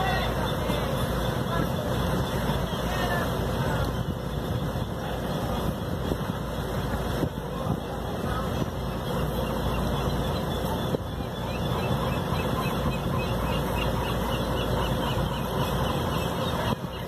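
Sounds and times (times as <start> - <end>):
boat engine rumbling: 0.0 - 17.0
wind on microphone: 1.4 - 17.0.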